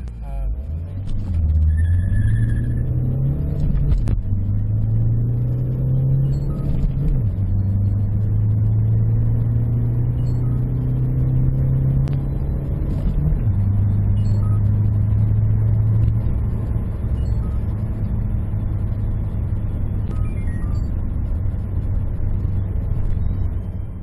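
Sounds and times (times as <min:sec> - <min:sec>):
diesel car engine accelerating: 0:00.0 - 0:24.0.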